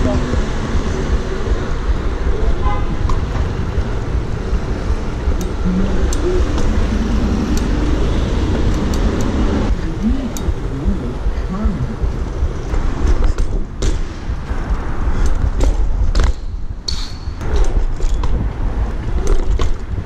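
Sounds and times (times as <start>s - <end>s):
street car traffic: 0.0s - 20.0s
wind on microphone: 0.0s - 20.0s.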